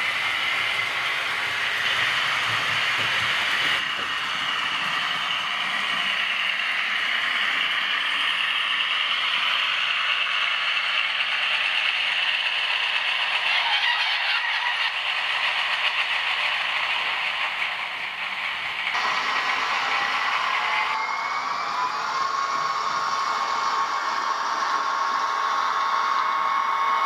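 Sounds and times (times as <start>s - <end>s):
model locomotive whirring: 0.0s - 27.0s.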